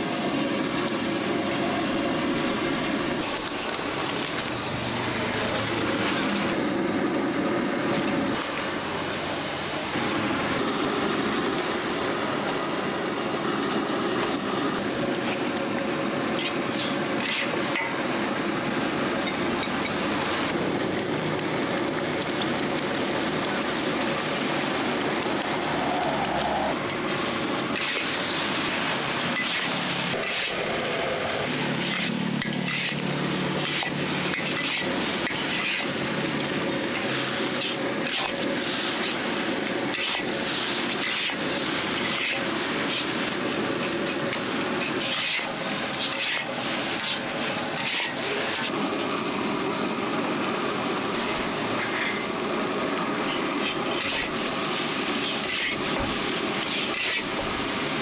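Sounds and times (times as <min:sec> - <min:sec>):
food sizzling in a wok: 0:09.8 - 0:58.0.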